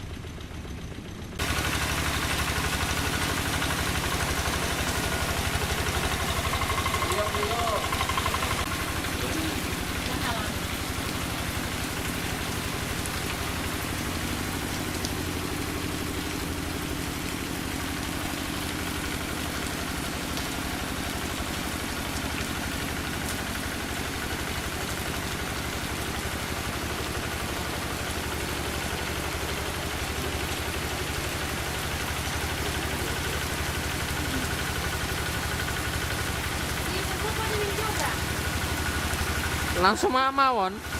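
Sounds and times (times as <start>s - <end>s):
diesel engine running: 0.0s - 40.9s
rain hissing: 1.4s - 40.9s.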